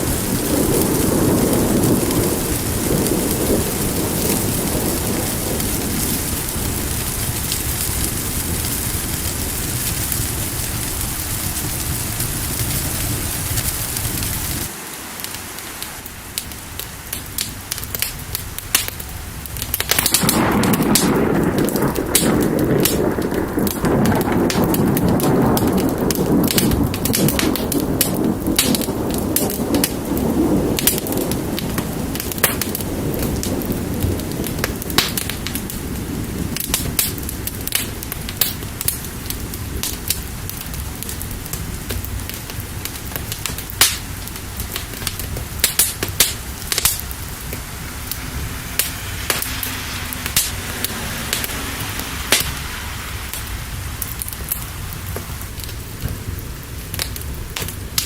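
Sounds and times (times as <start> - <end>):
low roll of thunder: 0.0 - 14.8, 16.0 - 58.0
steady rain: 0.0 - 58.0
wood fire crackling: 0.0 - 58.0.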